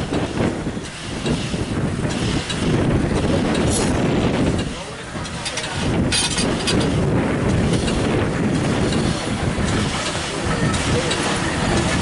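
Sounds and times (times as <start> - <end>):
steam locomotive rumbling on rails: 0.0 - 12.0.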